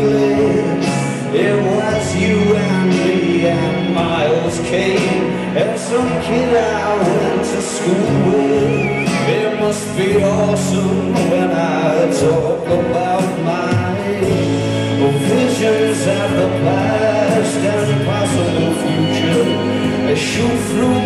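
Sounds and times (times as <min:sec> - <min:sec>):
male lead vocal: 0:00.0 - 0:21.0
rock band playing slow song: 0:00.0 - 0:21.0.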